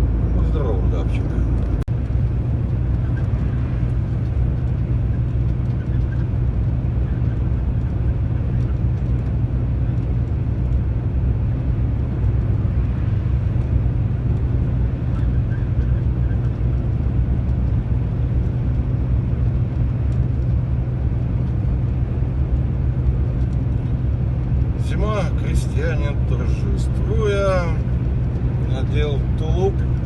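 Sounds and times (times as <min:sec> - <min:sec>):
truck engine drone: 0:00.0 - 0:30.0
tyre and road noise: 0:00.0 - 0:30.0.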